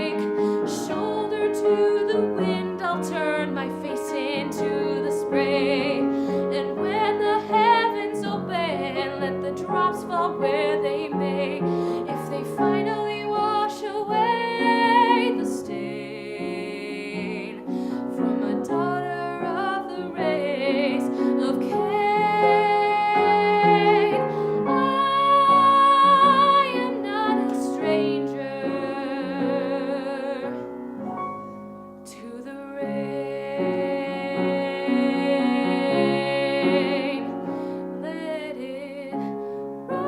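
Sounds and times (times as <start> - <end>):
woman singing with vibrato: 0.0 - 30.7, 32.1 - 39.3
piano accompaniment: 0.0 - 40.0.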